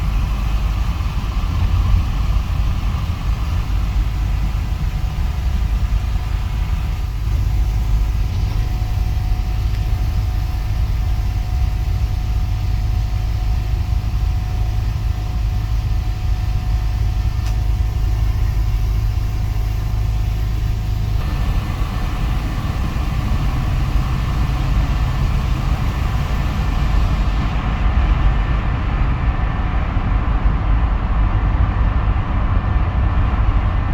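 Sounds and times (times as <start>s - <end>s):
truck engine and road noise: 0.0s - 33.9s.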